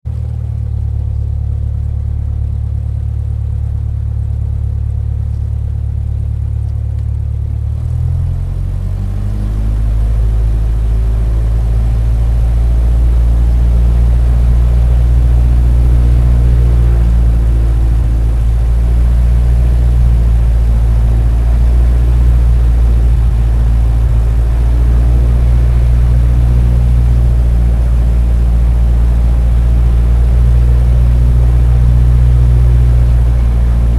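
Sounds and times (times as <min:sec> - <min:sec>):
aircraft engine starting up: 0:00.1 - 0:33.9.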